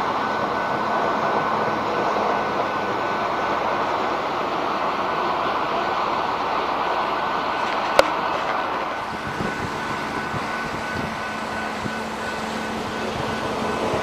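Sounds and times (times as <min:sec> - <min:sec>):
rail machine engines running: 0:00.0 - 0:14.0.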